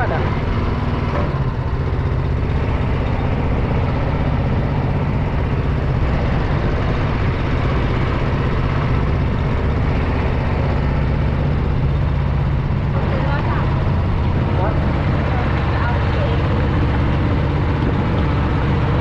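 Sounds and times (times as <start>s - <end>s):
motorboat engine humming: 0.0s - 19.0s.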